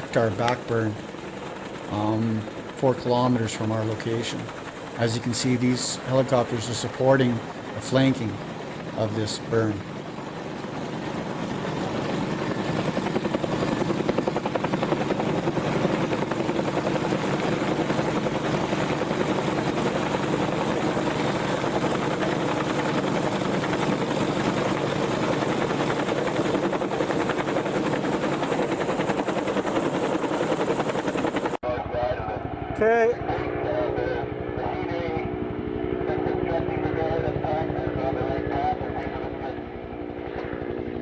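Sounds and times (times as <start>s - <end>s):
helicopter rotor beating: 0.0s - 41.0s.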